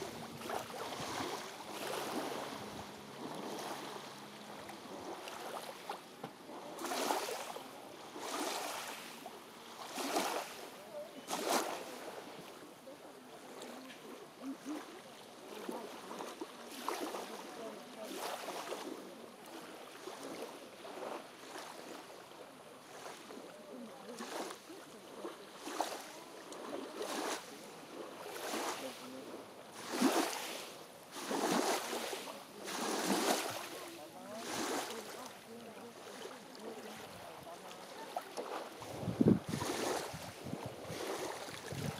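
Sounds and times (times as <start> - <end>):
waves lapping on pebbles: 0.0 - 41.9.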